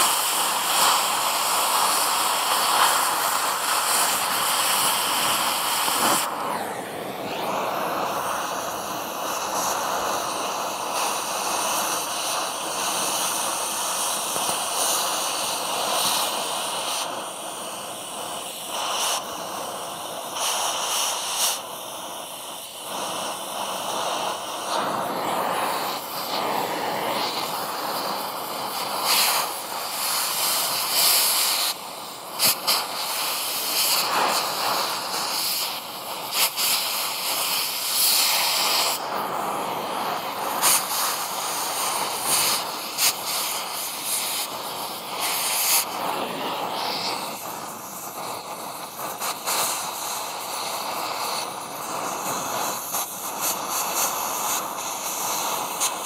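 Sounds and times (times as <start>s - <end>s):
sparks crackling and popping: 0.0s - 21.6s, 22.2s - 56.0s
cutting torch hissing: 0.0s - 56.0s.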